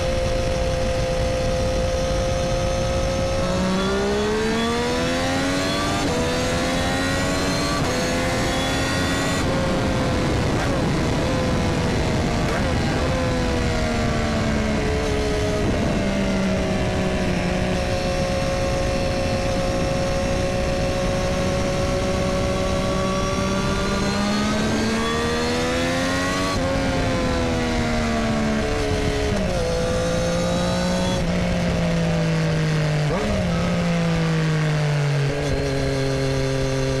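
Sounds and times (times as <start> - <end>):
motorcycle engine revving: 0.0 - 37.0
wind rush: 0.0 - 37.0.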